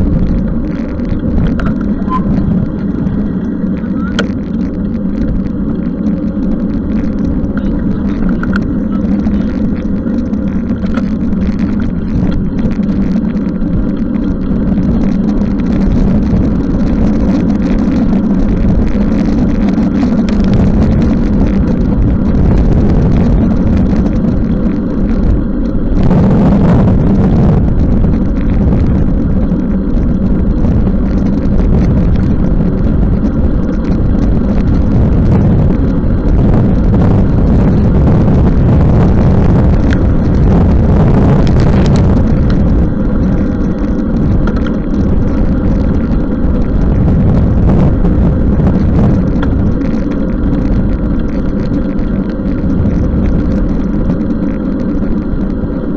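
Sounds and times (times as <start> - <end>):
bicycle riding in rain: 0.0 - 55.9.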